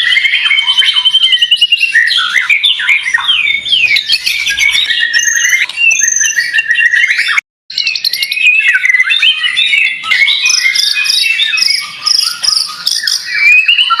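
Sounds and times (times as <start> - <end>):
bird singing whistled trills: 0.0 - 14.0.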